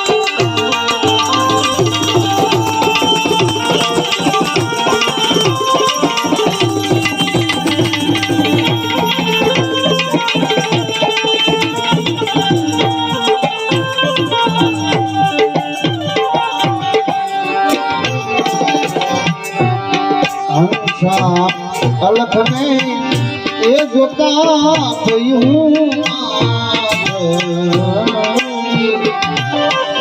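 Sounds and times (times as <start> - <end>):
sustained melodic accompaniment: 0.0 - 30.0
tabla playing fast rhythm: 0.0 - 30.0.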